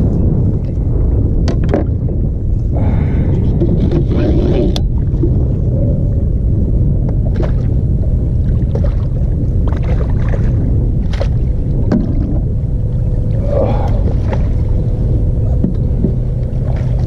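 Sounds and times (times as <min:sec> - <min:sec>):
low rumbling noise: 0:00.0 - 0:17.0.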